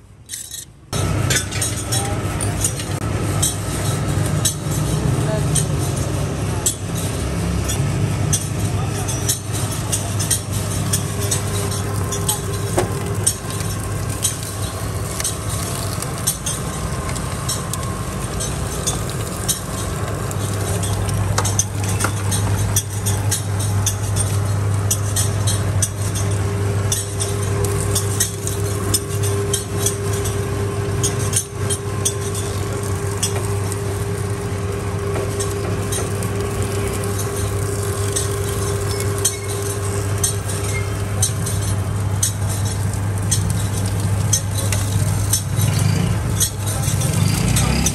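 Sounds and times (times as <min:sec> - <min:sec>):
juice machine humming: 0:00.9 - 0:47.9.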